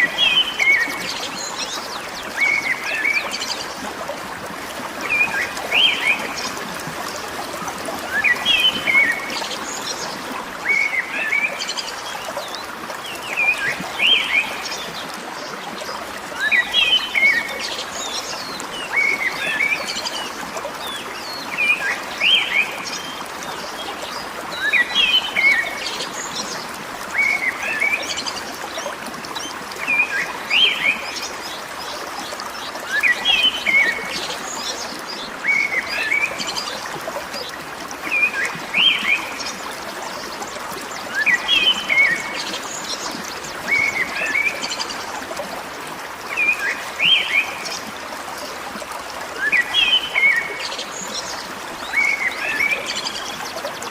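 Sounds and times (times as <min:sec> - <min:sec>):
running water: 0:00.0 - 0:53.9.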